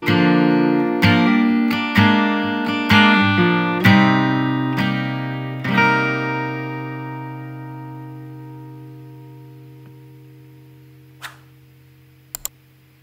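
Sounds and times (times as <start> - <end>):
acoustic guitar strummed chords: 0.0 - 12.2.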